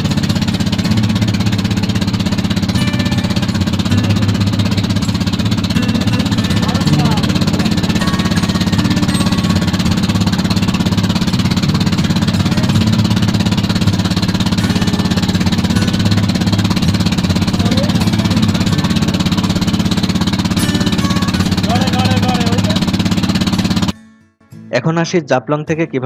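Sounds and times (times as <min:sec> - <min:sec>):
water rushing along hull: 0:00.0 - 0:23.9
motorboat engine pulsing: 0:00.0 - 0:24.0.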